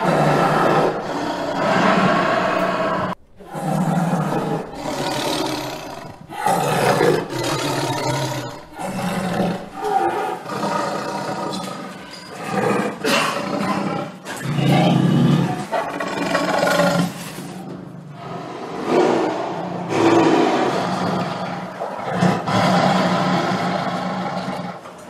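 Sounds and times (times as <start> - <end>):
big cat roaring and growling: 0.0 - 25.0.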